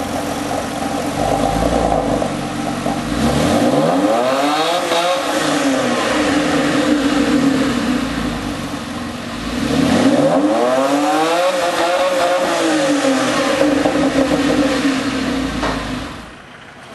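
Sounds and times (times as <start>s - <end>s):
sports car engine revving: 0.0s - 16.5s.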